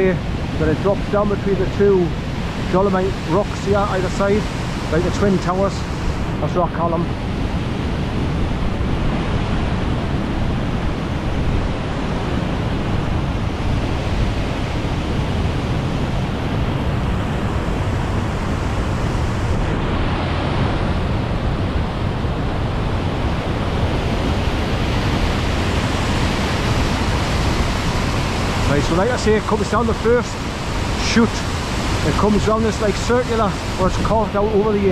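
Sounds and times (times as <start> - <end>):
waterfall roaring: 0.0 - 34.9.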